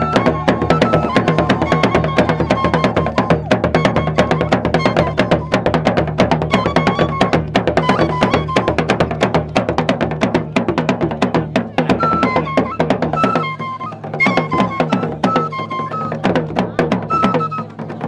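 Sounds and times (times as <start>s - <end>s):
drums playing fast: 0.0s - 18.0s.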